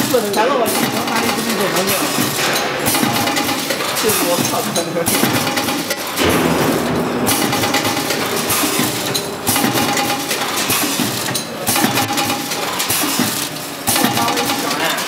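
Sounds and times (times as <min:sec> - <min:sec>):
packing machine clinking and clattering: 0:00.0 - 0:15.0.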